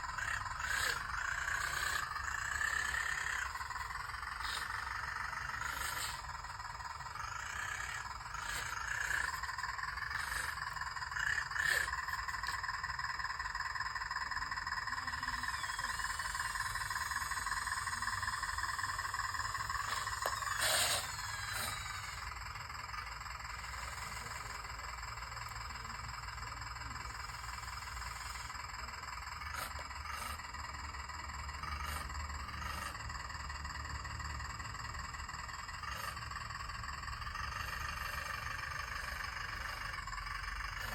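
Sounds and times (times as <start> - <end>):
toy excavator motor whine: 0.0 - 40.9.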